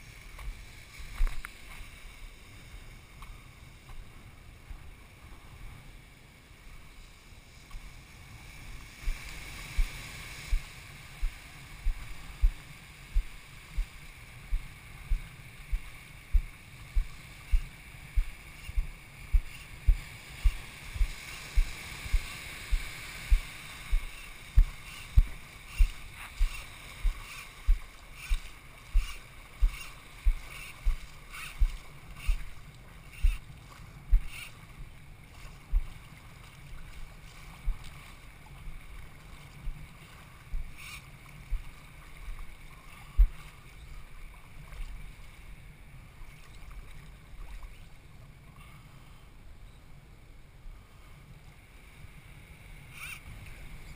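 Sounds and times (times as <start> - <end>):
surf and wind hiss: 0.0 - 53.9.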